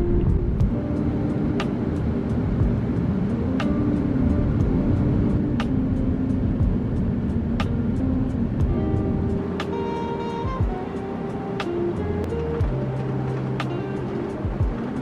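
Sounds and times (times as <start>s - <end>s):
aircraft engine and cabin noise: 0.0s - 15.0s
background music: 0.0s - 15.0s.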